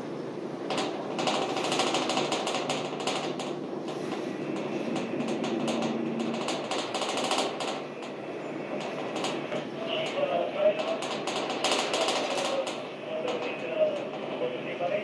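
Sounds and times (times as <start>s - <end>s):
rapid clattering rattle: 0.6s - 14.4s.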